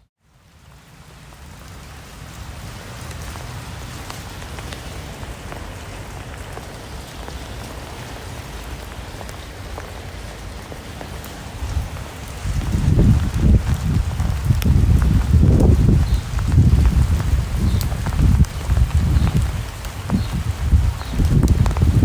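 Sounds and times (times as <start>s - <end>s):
steady rain falling: 0.2s - 22.0s.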